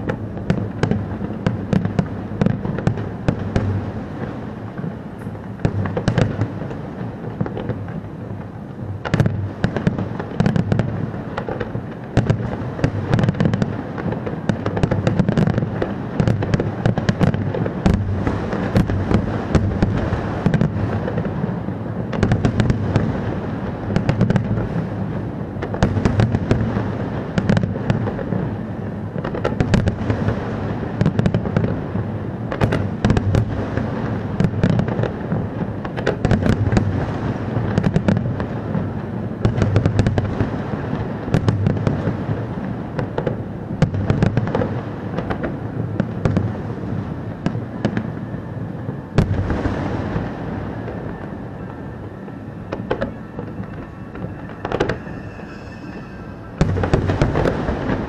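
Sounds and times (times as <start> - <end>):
fireworks cracking: 0.0 - 58.0.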